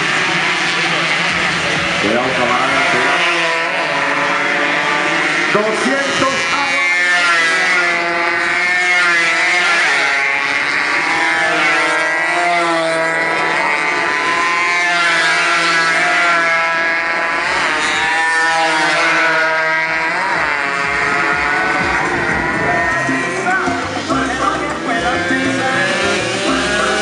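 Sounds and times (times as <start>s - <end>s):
racing motorcycles revving past: 0.0s - 27.0s.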